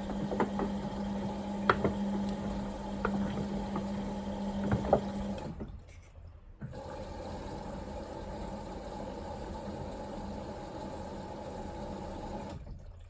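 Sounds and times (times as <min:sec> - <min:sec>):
washing machine hum: 0:00.0 - 0:13.0
water sloshing in washing machine: 0:00.0 - 0:13.0.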